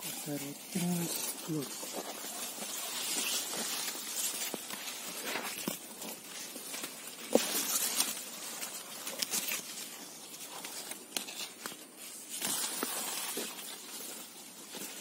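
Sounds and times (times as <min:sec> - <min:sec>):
plant leaves rustling: 0:00.0 - 0:15.0
stems snapping: 0:00.7 - 0:13.9.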